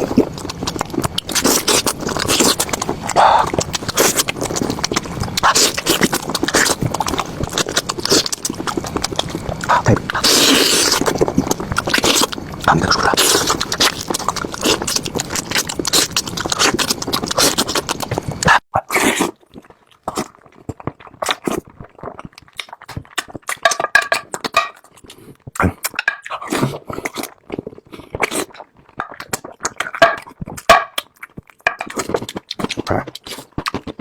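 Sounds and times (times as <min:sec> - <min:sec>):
person chewing meat: 0:00.0 - 0:34.0.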